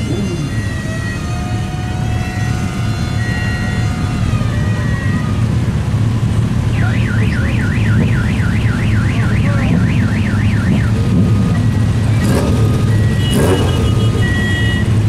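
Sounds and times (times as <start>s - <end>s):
electronic siren warbling: 0.0s - 14.9s
motorcycles idling: 0.0s - 15.0s.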